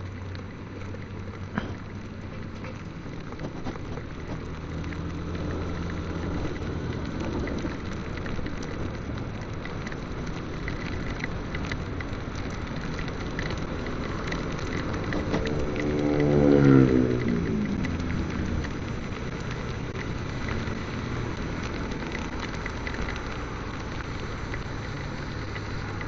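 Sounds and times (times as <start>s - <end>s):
low engine hum: 0.0s - 26.0s
wind and road noise: 0.0s - 26.0s
light ticks: 0.1s - 26.0s.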